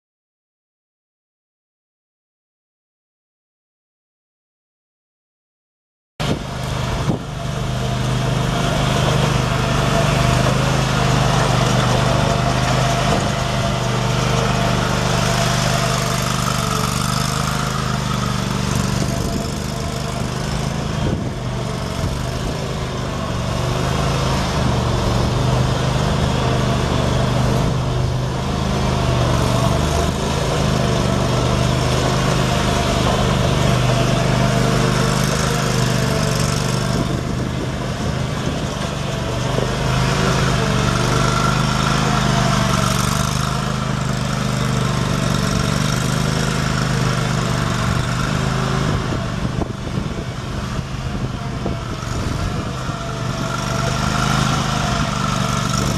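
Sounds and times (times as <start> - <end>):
lawn mower engine running: 6.2 - 55.9.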